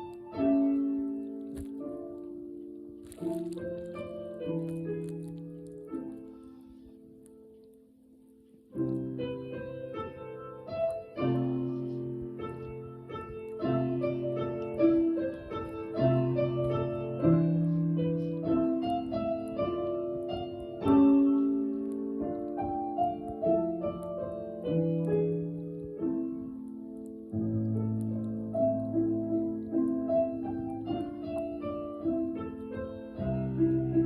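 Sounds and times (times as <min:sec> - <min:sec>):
piano playing slow melody: 0:00.0 - 0:34.0.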